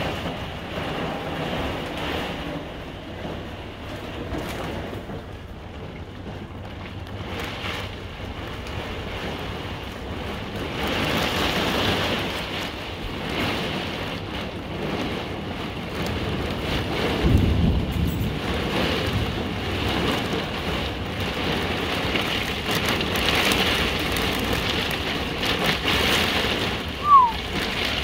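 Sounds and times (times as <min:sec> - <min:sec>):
deep thunder rumble: 0:00.0 - 0:28.0
heavy rain beating on walls: 0:00.0 - 0:28.0.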